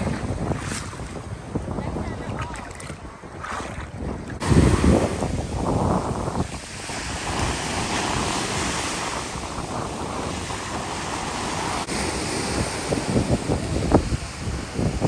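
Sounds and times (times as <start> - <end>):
surf breaking at shoreline: 0.0 - 15.0
wind buffeting microphone: 0.0 - 15.0.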